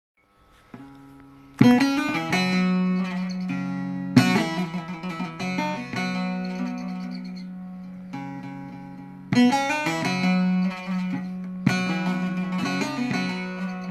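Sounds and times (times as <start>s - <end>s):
long-necked lute played solo: 0.7s - 13.9s.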